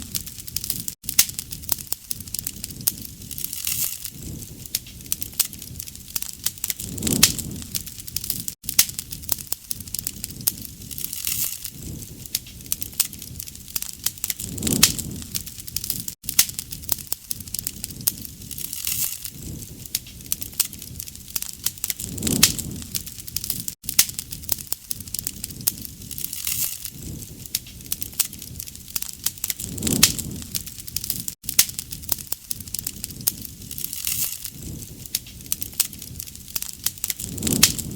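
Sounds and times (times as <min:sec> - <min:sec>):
bonfire crackling and popping: 0:00.0 - 0:37.9
low rush of flame: 0:00.0 - 0:37.9.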